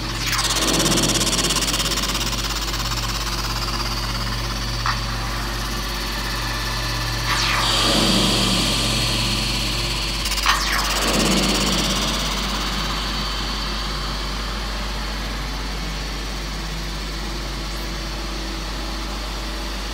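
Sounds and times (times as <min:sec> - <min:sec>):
electrical hum: 0:00.0 - 0:19.9
falling whine: 0:00.0 - 0:19.9.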